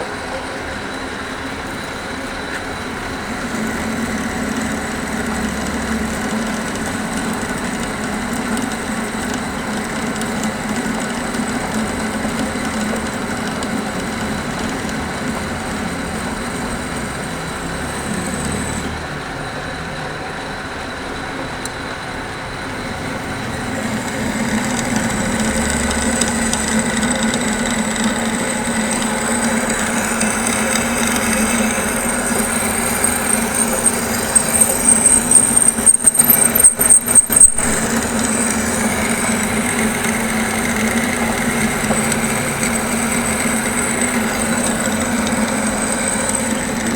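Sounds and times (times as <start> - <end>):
high motor whine: 0.0 - 46.9
machine motor humming: 1.0 - 19.4, 21.6 - 46.9.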